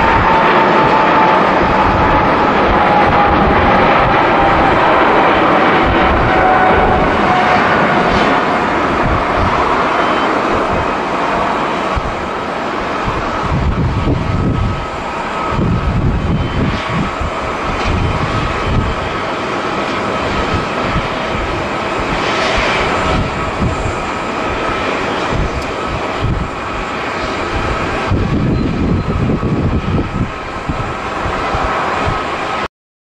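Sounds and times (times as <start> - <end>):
jet airliner climbing: 0.0 - 32.7.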